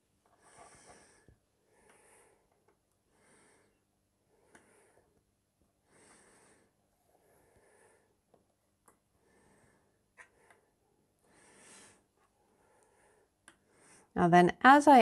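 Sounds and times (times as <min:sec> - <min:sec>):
faint soft breaths: 0:00.2 - 0:14.2.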